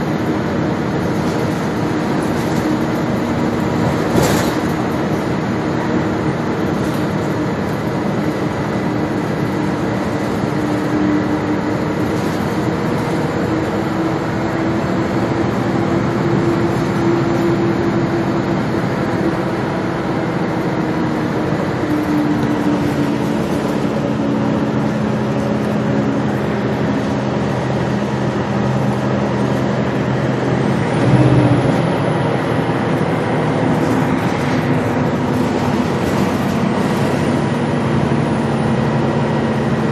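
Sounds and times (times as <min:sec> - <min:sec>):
bus engine rumbling: 0:00.0 - 0:39.9
road noise: 0:00.0 - 0:39.9.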